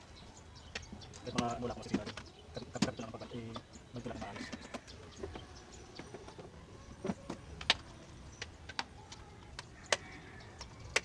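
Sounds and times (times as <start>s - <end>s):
clicks and knocks of plastic parts: 0.7s - 11.0s.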